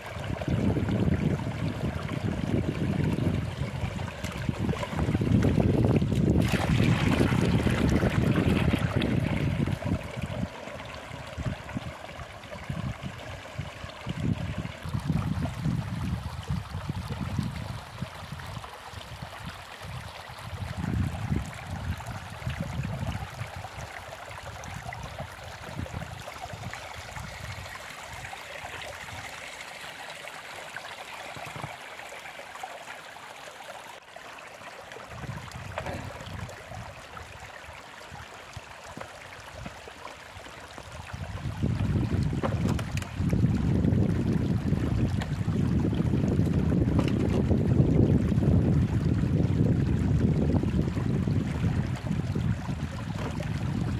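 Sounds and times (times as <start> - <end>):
water pouring into funnel: 0.0 - 53.9.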